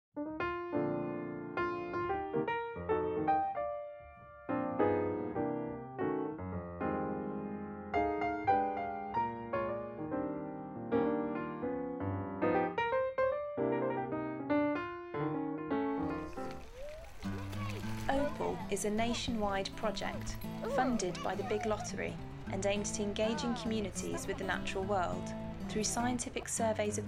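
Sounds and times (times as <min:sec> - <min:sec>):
electric piano melody: 0:00.2 - 0:26.3.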